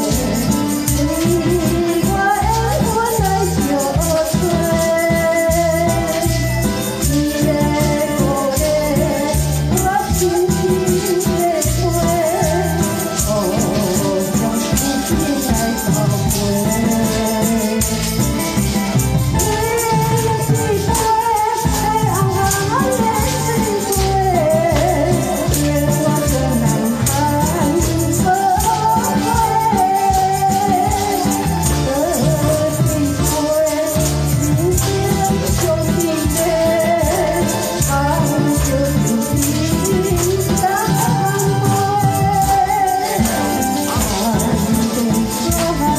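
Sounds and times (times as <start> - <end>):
pop song backing track: 0.0 - 45.9
tambourine shaking: 0.0 - 45.9
woman singing into microphone: 0.0 - 45.9.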